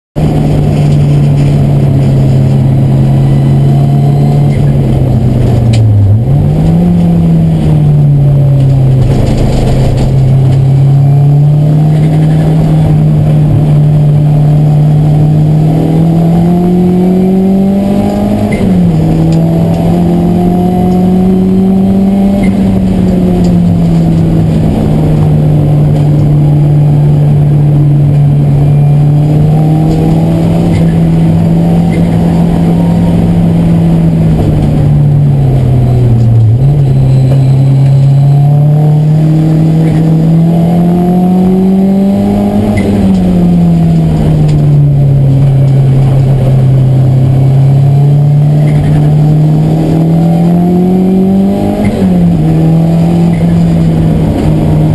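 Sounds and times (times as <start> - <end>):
racing car engine: 0.2 - 54.9.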